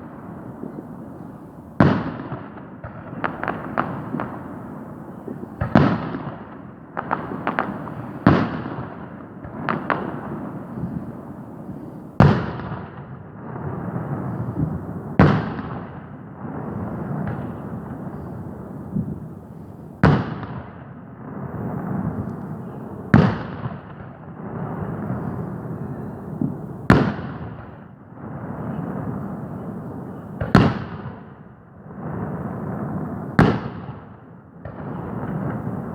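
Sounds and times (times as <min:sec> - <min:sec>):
fireworks bangs: 0:00.0 - 0:19.3, 0:20.0 - 0:35.9
faint fireworks pops: 0:00.0 - 0:29.4, 0:30.2 - 0:31.4, 0:32.0 - 0:35.9.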